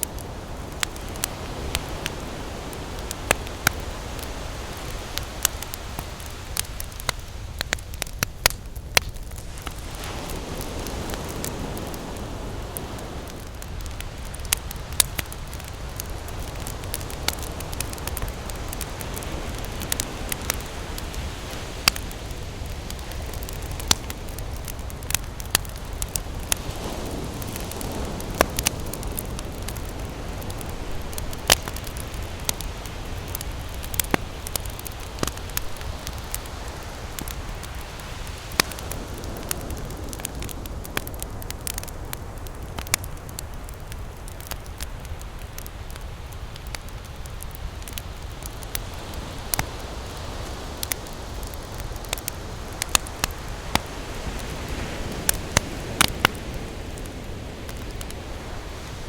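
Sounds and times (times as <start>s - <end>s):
ocean surf: 0.0s - 43.4s, 47.6s - 59.0s
campfire crackling and popping: 0.0s - 59.0s.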